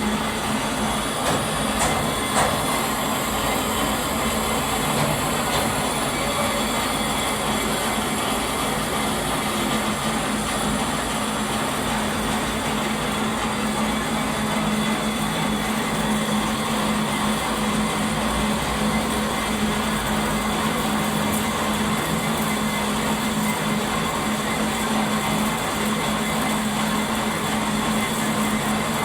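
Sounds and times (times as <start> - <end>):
workshop machine humming: 0.0 - 29.0.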